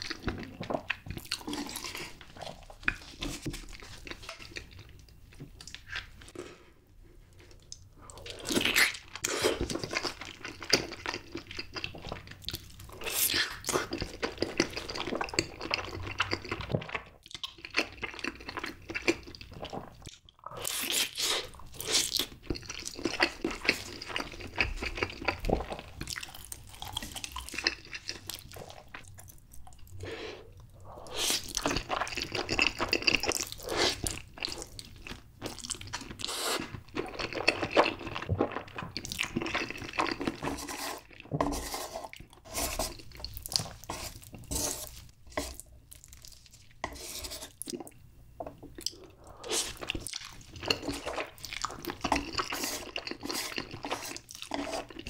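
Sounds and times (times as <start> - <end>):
chewing and wet mouth sounds: 0.0 - 6.4, 7.3 - 41.4, 47.5 - 55.0.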